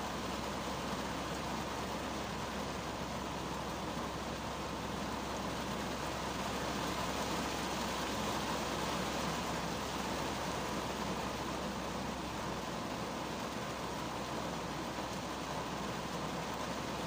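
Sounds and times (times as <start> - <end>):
heavy rain on car windshield: 0.0 - 17.0.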